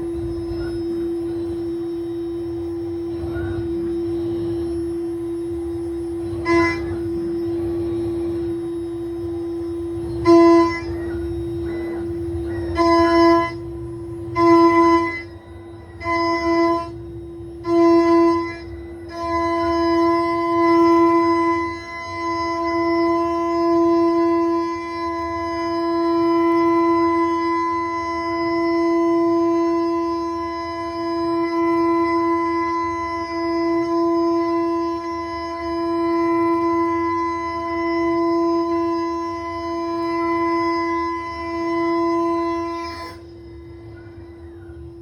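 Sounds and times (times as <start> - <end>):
milling machine spindle whine: 0.0 - 45.0.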